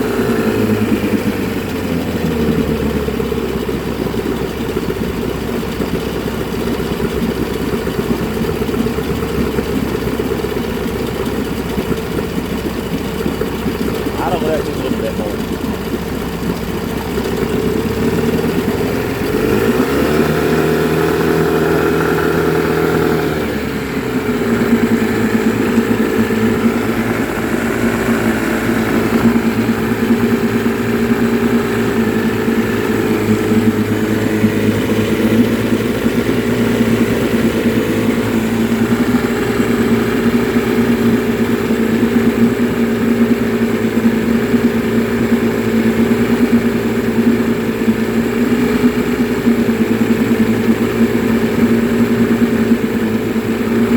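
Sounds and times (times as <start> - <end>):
outboard motor running: 0.0 - 53.9.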